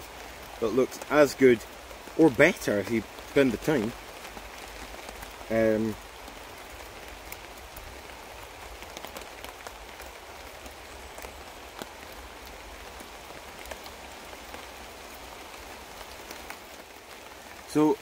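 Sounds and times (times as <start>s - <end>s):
rain pattering on a tarp: 0.0s - 18.0s.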